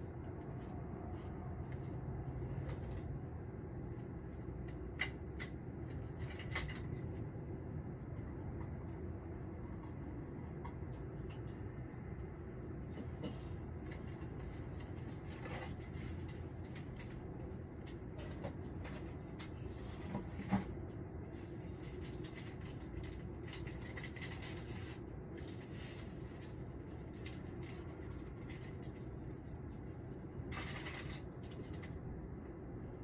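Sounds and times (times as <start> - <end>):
distant traffic rumble: 0.0 - 33.0.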